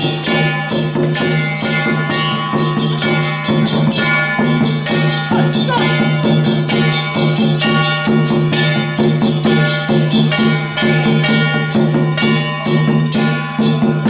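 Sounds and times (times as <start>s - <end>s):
festive music: 0.0s - 14.0s
rattles and drums beat: 0.0s - 14.0s.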